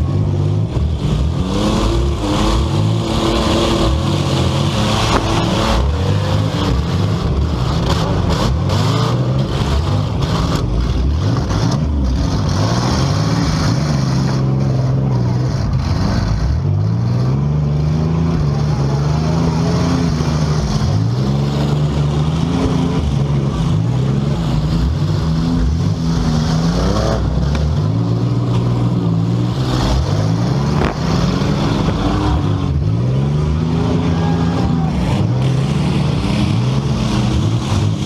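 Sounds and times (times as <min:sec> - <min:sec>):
car engines revving: 0:00.0 - 0:38.0.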